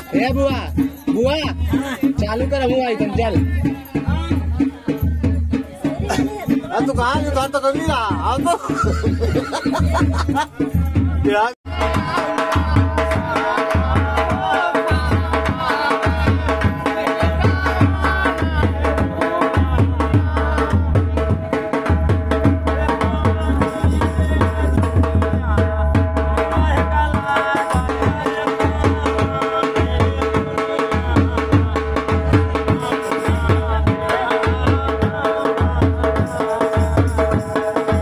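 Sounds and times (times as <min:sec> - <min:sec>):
hand drum beaten in fast rhythm: 0:00.0 - 0:38.0
music: 0:00.0 - 0:38.0.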